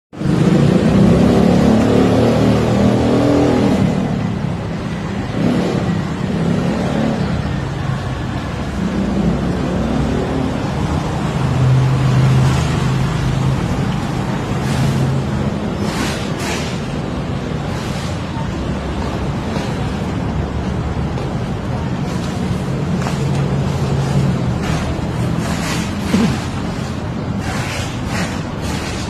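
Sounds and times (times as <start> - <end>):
outdoor street noise: 0.1 - 29.0.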